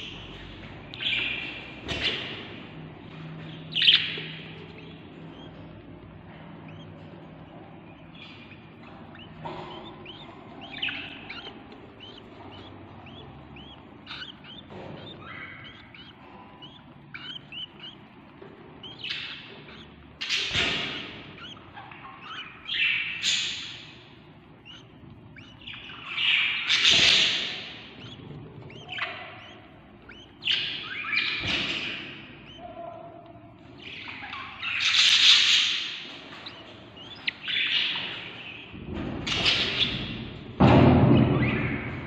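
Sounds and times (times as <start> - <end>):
chicks chirping: 0.0 - 42.0
raspy begging calls of chicks: 1.0 - 40.4.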